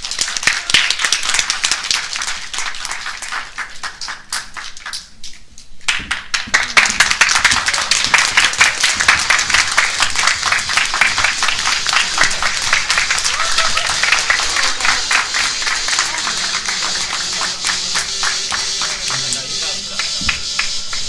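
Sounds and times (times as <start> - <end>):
audience applause: 0.0 - 5.0, 5.9 - 21.0.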